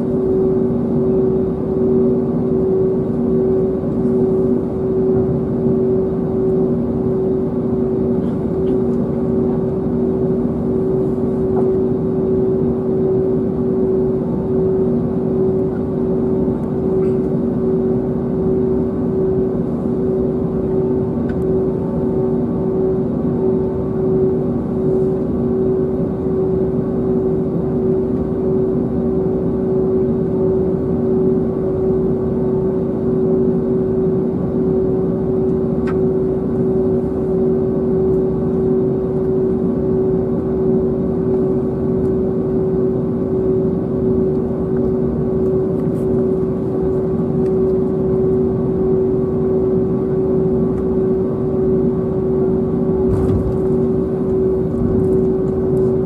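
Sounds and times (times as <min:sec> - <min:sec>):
aircraft cabin engine hum: 0:00.0 - 0:56.0.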